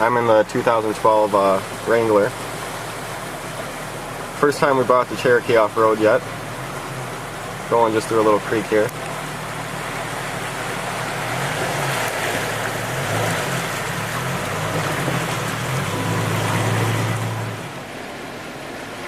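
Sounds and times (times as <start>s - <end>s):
car engine revving: 0.0s - 18.1s
rushing water: 0.0s - 19.0s.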